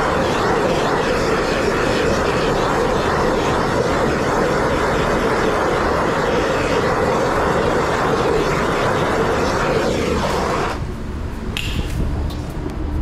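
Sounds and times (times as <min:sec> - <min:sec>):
gas torch hissing: 0:00.0 - 0:13.0.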